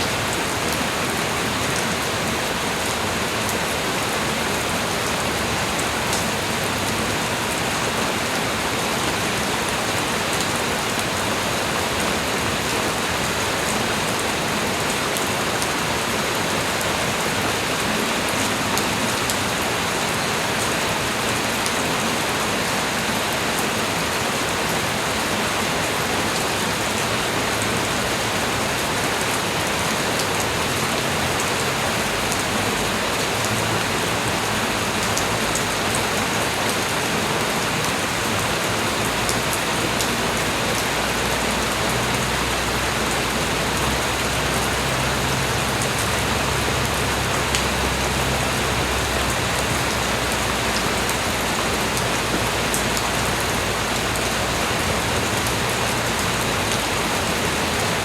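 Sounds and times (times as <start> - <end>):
light rain falling: 0.0 - 58.0.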